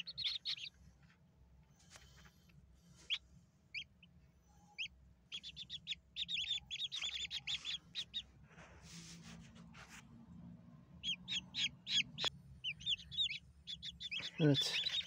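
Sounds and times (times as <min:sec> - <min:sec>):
chicks peeping: 0:00.0 - 0:00.8, 0:01.8 - 0:09.9, 0:11.0 - 0:15.0.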